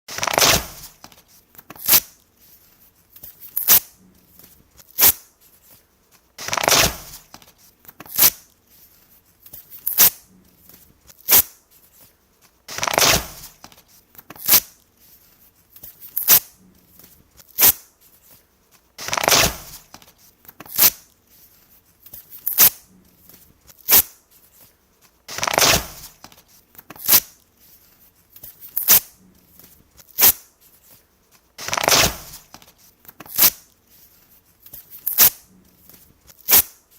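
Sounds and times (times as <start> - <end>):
paper tearing: 0.1 - 5.8, 6.4 - 12.1, 12.7 - 18.4, 19.0 - 24.7, 25.3 - 31.0, 31.6 - 36.9.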